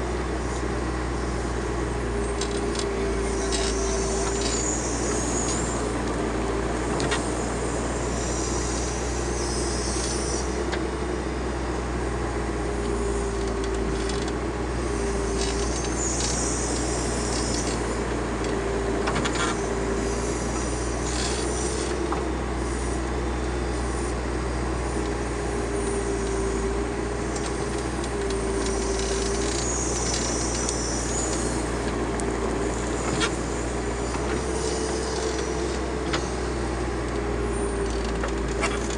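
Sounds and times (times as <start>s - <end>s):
diesel engine running: 0.0s - 38.9s
mid-pitched whine: 0.0s - 38.9s.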